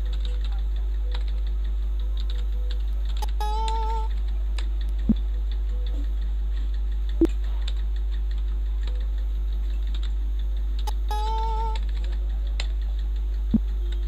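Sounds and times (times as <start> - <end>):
computer keyboard keys clicking: 0.0 - 14.0
low electrical hum: 0.0 - 14.0.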